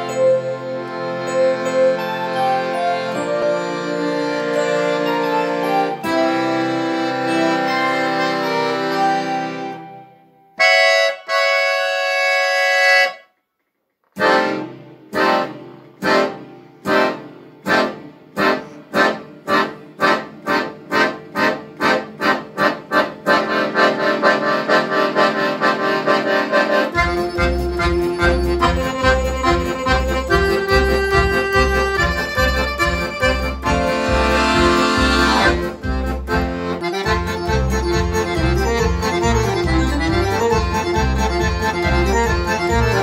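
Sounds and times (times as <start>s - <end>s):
piano accordion chords: 0.0s - 13.3s, 14.2s - 43.0s.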